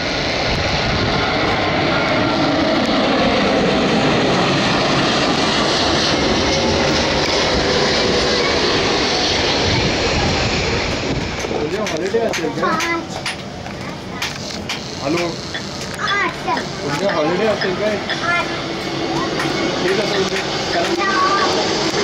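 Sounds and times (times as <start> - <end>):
jet plane passing overhead: 0.0 - 22.0.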